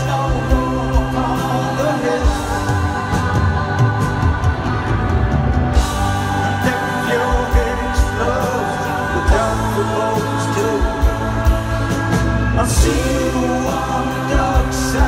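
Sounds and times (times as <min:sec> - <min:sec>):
backing vocals: 0:00.0 - 0:15.0
drums with cymbal hits: 0:00.0 - 0:15.0
electric guitars: 0:00.0 - 0:15.0
person singing: 0:00.0 - 0:15.0.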